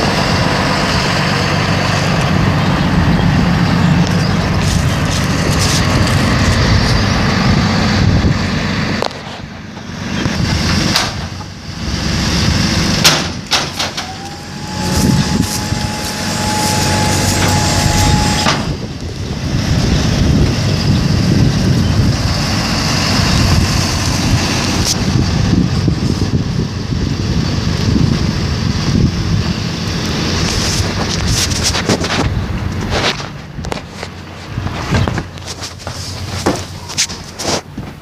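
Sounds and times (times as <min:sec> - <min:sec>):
steady whine: 0:00.0 - 0:38.0
truck engine idling: 0:00.0 - 0:38.0
wind buffeting microphone: 0:00.0 - 0:38.0.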